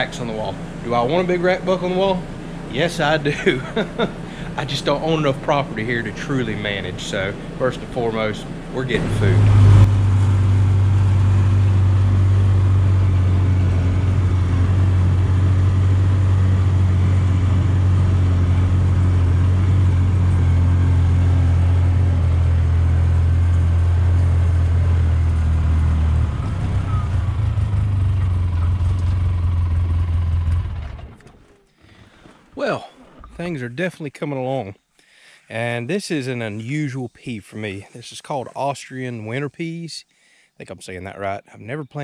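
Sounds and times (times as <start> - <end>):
vehicle engine low drone: 0.0 - 33.8.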